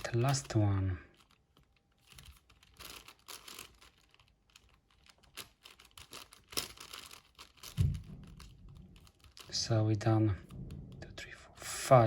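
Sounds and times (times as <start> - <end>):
puzzle cube clicking and rattling: 0.0 - 9.8.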